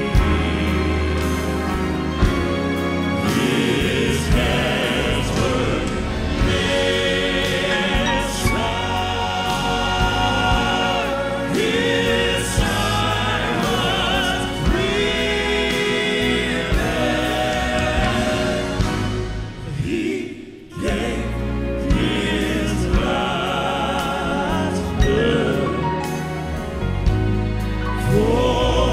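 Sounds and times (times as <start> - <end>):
male quartet singing in harmony: 0.0 - 28.9.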